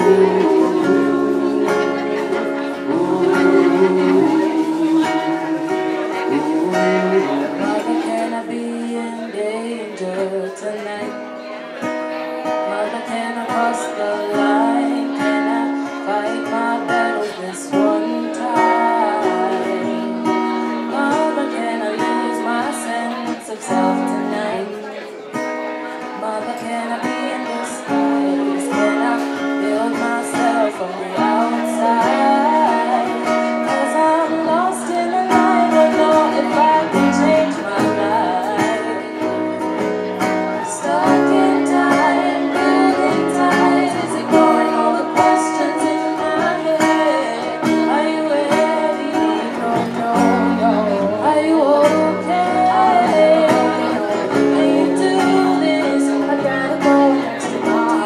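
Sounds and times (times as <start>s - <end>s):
person singing: 0.0s - 11.3s, 12.6s - 25.0s, 26.1s - 58.0s
guitar playing: 0.0s - 58.0s.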